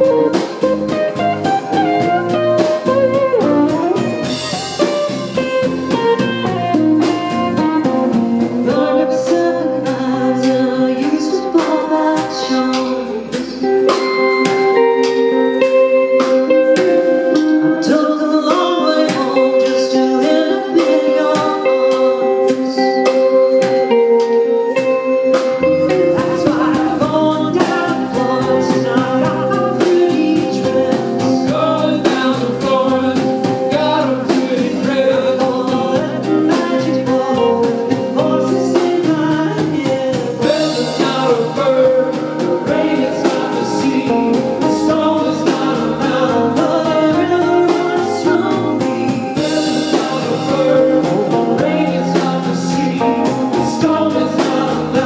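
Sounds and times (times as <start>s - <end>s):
drum kit: 0.0s - 55.0s
guitars: 0.0s - 55.0s
person singing: 0.0s - 55.0s.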